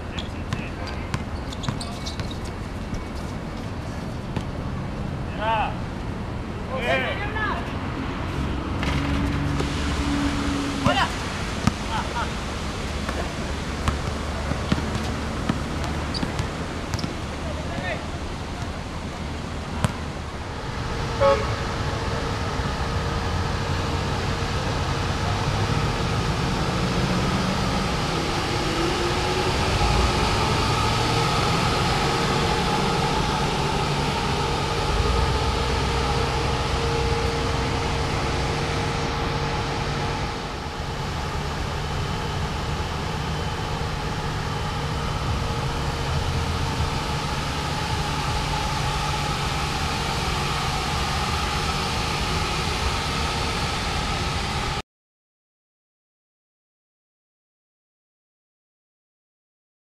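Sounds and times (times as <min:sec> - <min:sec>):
busy road traffic: 0:00.0 - 0:54.8.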